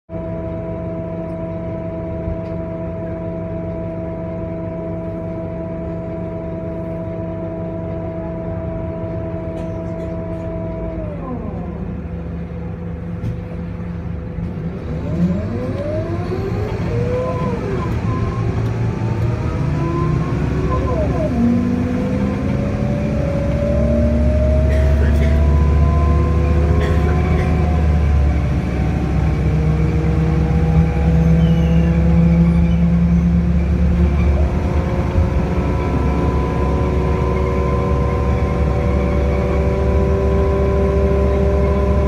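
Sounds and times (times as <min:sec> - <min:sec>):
diesel bus engine idling: 0:00.1 - 0:42.0
bus engine revving: 0:00.2 - 0:42.0.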